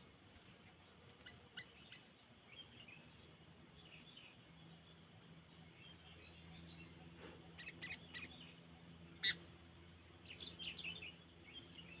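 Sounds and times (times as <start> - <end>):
bird chirping notes: 1.2 - 12.0.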